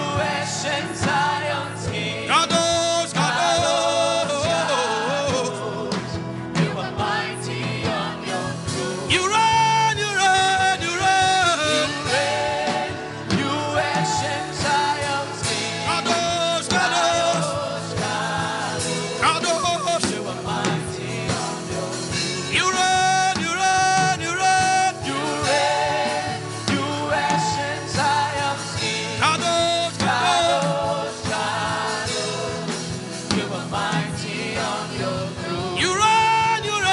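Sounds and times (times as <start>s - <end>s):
instrumental backing: 0.0s - 36.9s.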